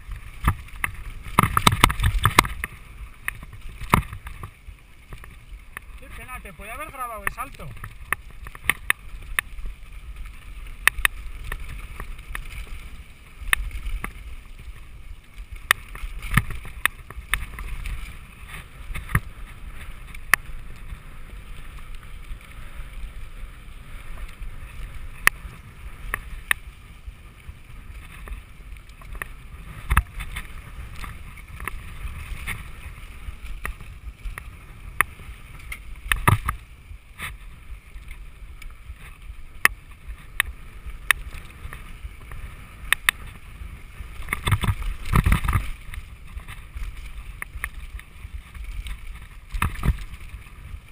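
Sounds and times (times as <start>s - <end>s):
bike knocking and rattling: 0.0s - 50.9s
bike tyres rumbling on gravel: 0.0s - 50.9s
wind: 0.0s - 50.9s.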